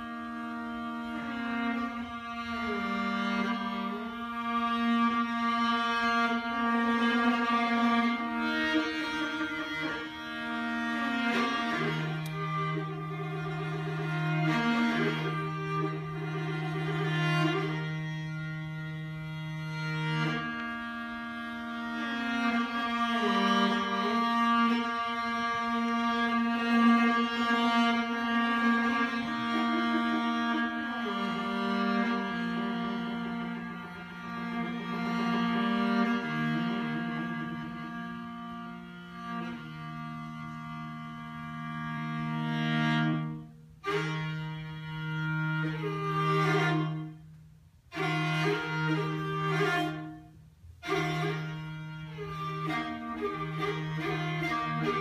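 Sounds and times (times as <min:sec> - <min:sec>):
bowed fiddle solo: 0:00.0 - 0:55.0.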